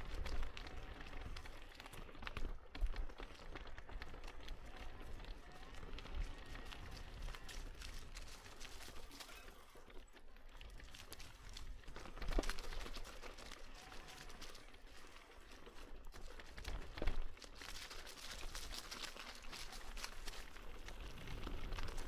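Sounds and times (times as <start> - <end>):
footsteps crunching on trail: 0.0 - 22.0.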